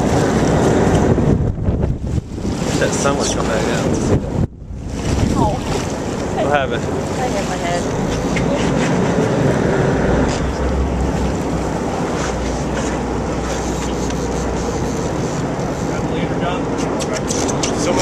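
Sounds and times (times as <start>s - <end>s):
low engine rumble: 0.0s - 18.0s
sea water washing: 0.0s - 18.0s
wind: 0.0s - 18.0s.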